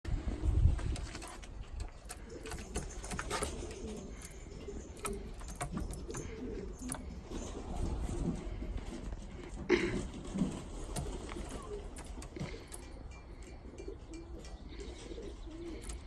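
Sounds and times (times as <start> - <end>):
pigeons cooing: 0.1 - 16.0.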